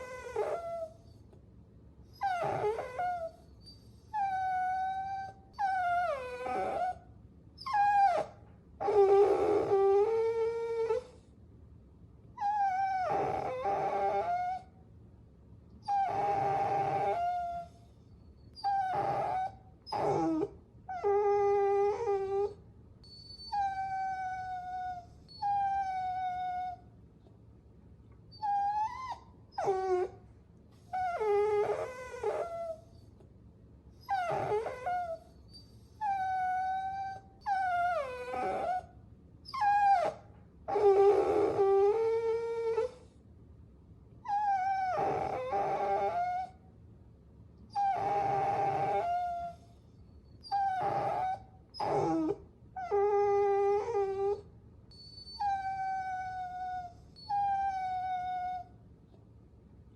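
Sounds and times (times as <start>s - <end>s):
puppy whining and howling: 0.0s - 1.4s, 2.1s - 11.3s, 12.4s - 14.8s, 15.8s - 27.0s, 28.3s - 33.2s, 33.9s - 43.2s, 44.2s - 46.7s, 47.7s - 58.9s.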